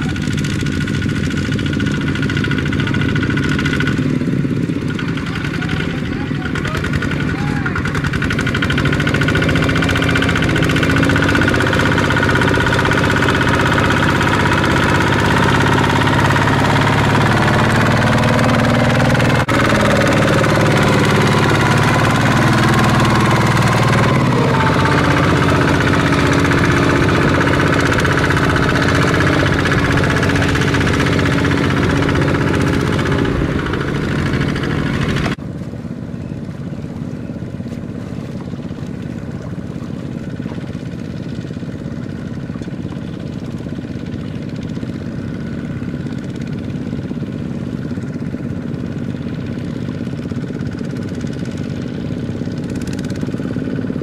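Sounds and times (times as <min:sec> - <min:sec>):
diesel tractor engines running: 0:00.0 - 0:54.0.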